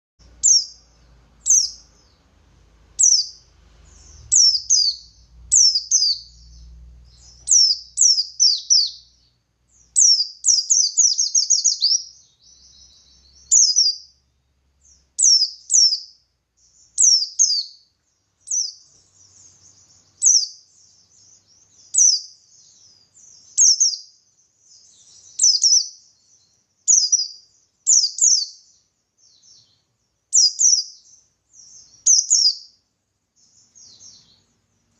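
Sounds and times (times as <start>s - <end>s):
soft bird twittering: 0.2s - 34.9s
bird whistled song: 0.3s - 2.3s, 3.0s - 32.8s, 33.4s - 34.6s.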